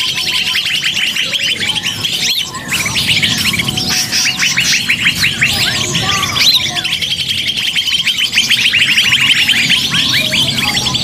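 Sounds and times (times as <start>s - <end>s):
chorus of small birds chirping: 0.0s - 11.0s.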